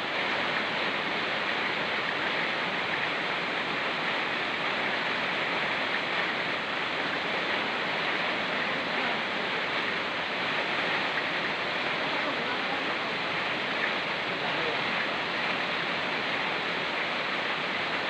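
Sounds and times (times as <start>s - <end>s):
rain falling: 0.0s - 18.0s
river water rushing: 0.0s - 18.0s.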